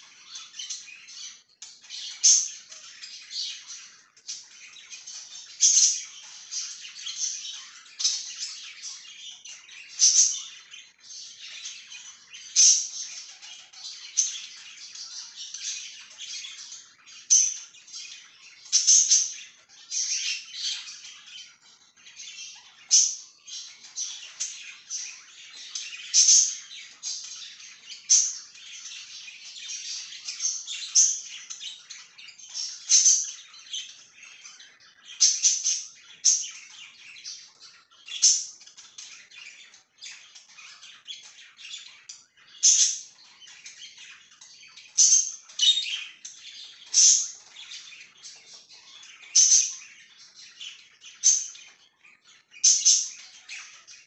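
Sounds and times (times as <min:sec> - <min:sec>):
budgerigars chirping: 0:00.0 - 0:54.0
sharp bird calls: 0:00.0 - 0:54.0.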